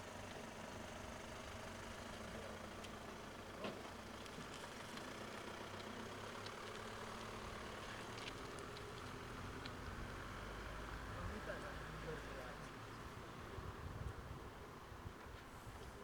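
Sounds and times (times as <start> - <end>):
idling engine hum: 0.0 - 16.0.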